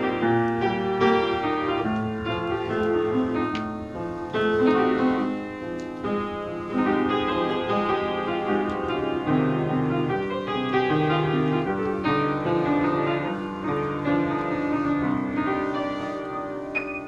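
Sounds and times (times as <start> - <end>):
solo piano: 0.0 - 17.0.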